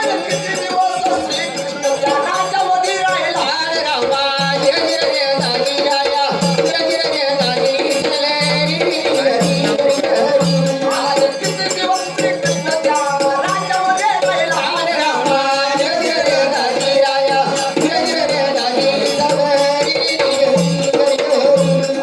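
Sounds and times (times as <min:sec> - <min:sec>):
person singing: 0:00.0 - 0:22.0
regular drum beat: 0:00.0 - 0:22.0.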